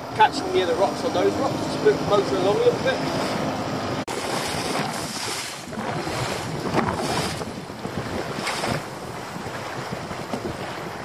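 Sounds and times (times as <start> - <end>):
wind buffeting microphone: 0.0 - 11.0
waves slapping against boat hull: 2.1 - 11.0.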